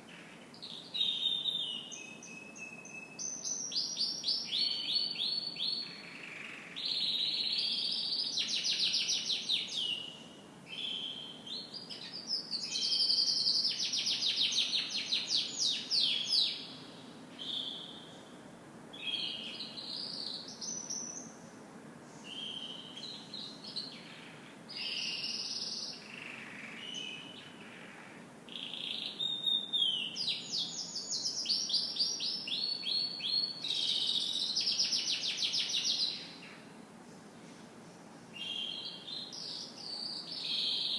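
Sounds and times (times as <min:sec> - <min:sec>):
canary singing: 0:00.1 - 0:18.1, 0:19.0 - 0:21.4, 0:22.3 - 0:36.6, 0:38.4 - 0:40.9.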